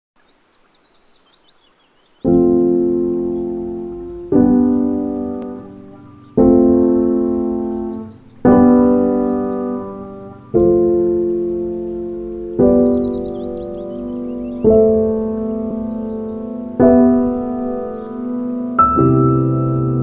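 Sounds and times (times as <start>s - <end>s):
bird chirping: 0.2s - 20.0s
slow calm piano music: 2.2s - 20.0s.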